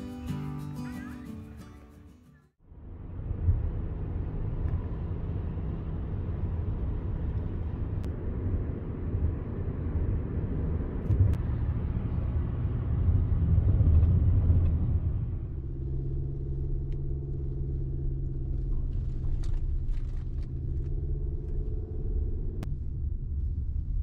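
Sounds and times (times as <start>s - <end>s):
road and wind rumble in car: 2.6s - 24.0s.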